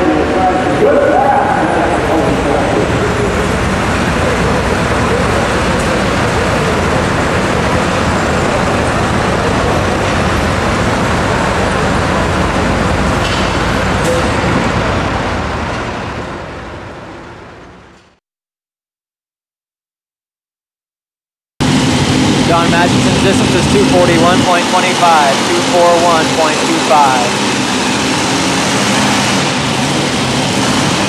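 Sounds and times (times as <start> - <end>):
loud diesel tractor engines: 0.0 - 17.9, 21.6 - 31.0.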